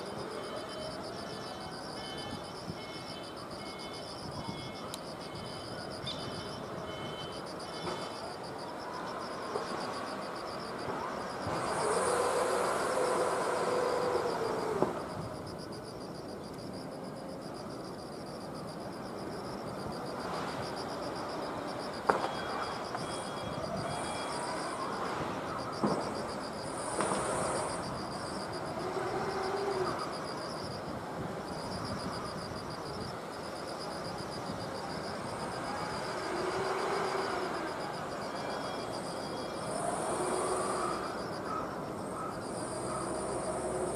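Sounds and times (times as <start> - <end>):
insects chirping in trills: 0.0 - 43.9
outdoor background noise: 0.0 - 43.9.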